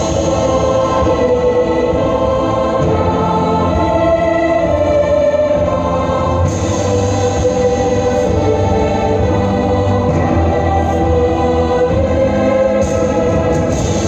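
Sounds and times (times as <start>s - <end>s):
music with choir-like voices: 0.0s - 14.0s.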